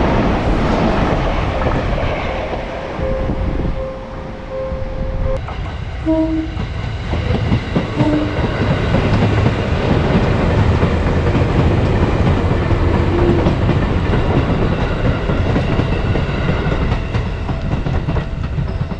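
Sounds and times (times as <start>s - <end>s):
electric train rumbling: 0.0s - 18.9s.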